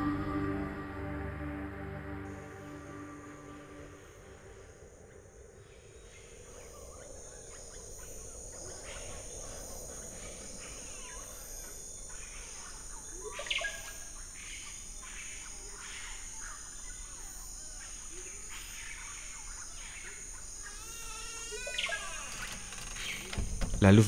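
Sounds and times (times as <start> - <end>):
high insect drone: 1.8 - 24.0
bird calls: 2.6 - 24.0.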